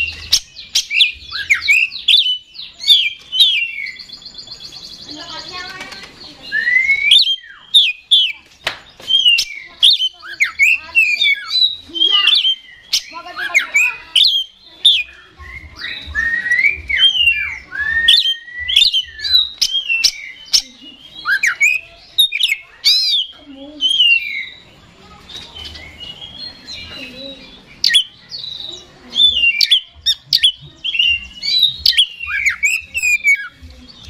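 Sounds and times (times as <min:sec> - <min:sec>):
bird singing: 0:00.0 - 0:34.0.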